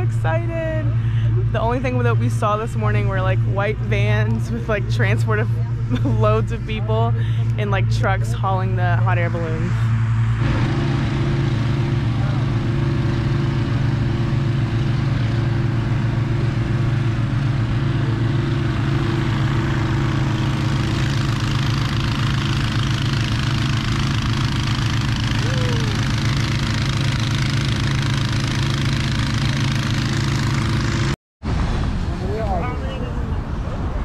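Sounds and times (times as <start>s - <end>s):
engine fan humming: 0.0s - 34.0s.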